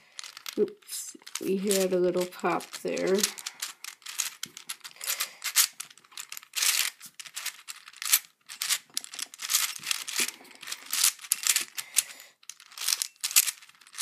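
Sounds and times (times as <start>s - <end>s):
plastic puzzle cube clicking: 0.1s - 14.0s.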